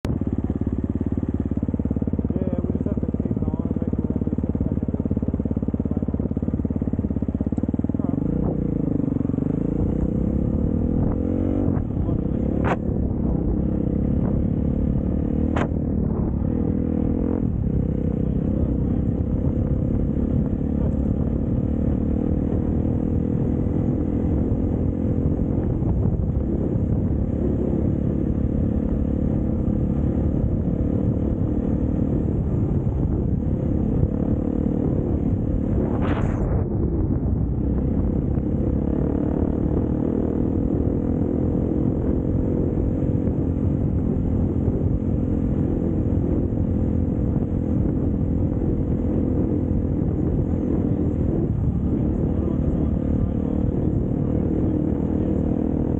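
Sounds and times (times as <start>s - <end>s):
dirt bike engine: 0.0s - 55.9s.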